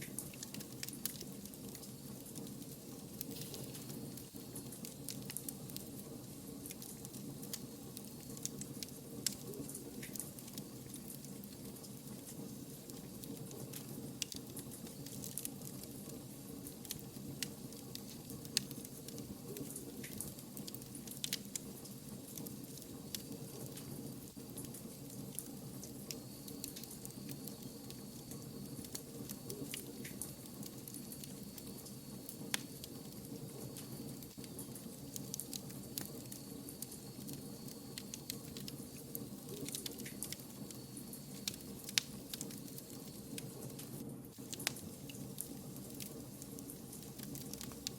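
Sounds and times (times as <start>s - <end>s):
low rumble of burning logs: 0.0s - 47.9s
wood fire crackling and popping: 0.0s - 47.9s.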